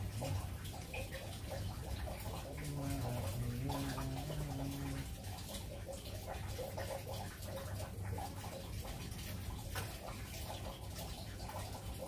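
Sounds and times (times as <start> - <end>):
running water bubbling: 0.0 - 12.0.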